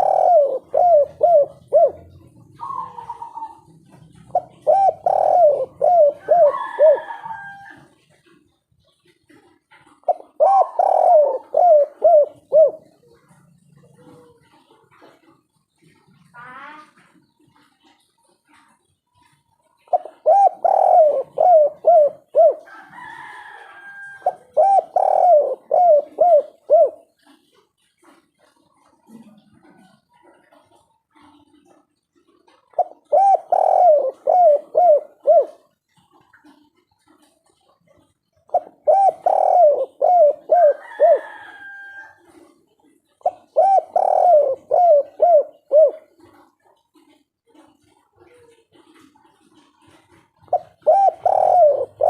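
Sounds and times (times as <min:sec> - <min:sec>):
dove cooing: 0:00.0 - 0:52.0.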